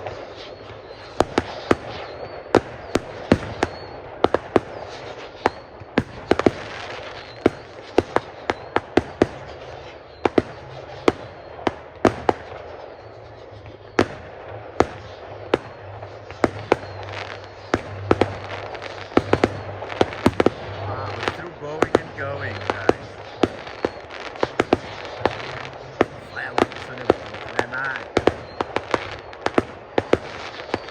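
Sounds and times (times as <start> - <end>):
crackling hiss: 0.0 - 30.9
fireworks bangs: 0.0 - 30.9.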